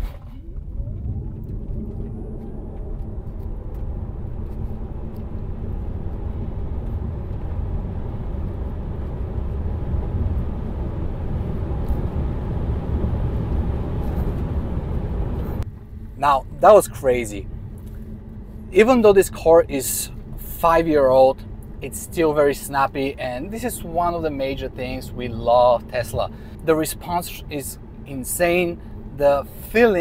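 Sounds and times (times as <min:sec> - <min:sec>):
road and wind noise: 0:00.0 - 0:30.0.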